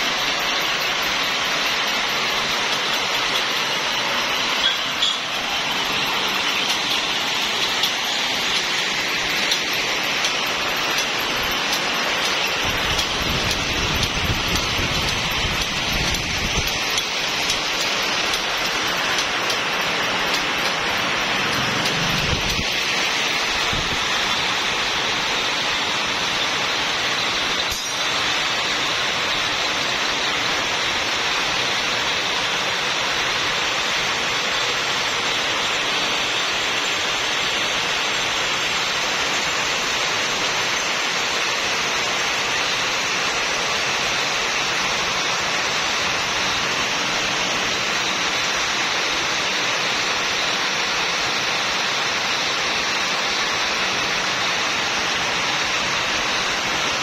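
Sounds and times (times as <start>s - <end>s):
yarn-winding machines running: 0.0s - 57.0s.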